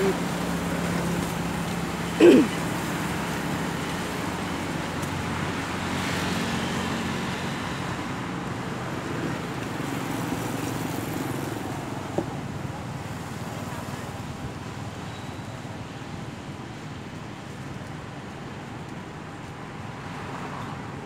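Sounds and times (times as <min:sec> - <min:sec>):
road traffic hiss: 0:00.0 - 0:21.0.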